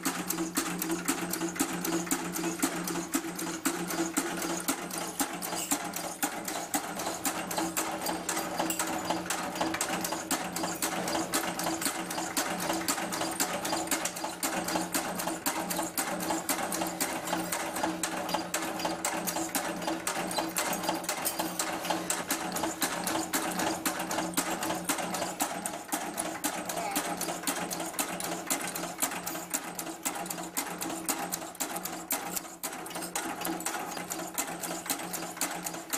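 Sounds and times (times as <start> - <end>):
machine clattering clicks: 0.0 - 35.9
machine drive hum: 0.0 - 35.9.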